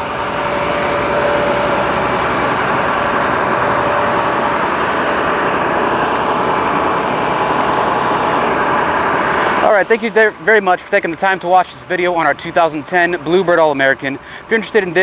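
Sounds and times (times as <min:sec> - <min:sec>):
bus rushing noise: 0:00.0 - 0:15.0
faint steady hum: 0:00.0 - 0:15.0.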